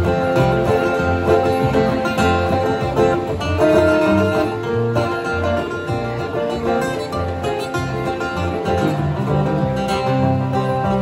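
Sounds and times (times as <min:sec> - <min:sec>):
acoustic guitars playing: 0:00.0 - 0:11.0
upright bass plucking low notes: 0:00.0 - 0:11.0.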